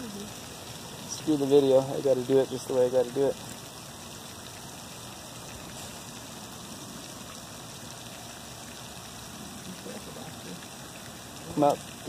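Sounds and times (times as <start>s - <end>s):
light rain hissing: 0.0s - 12.0s.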